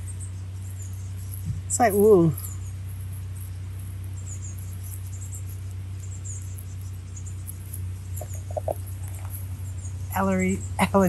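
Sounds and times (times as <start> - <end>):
small wildlife chirping: 0.0 - 11.0
steady low hum: 0.0 - 11.0.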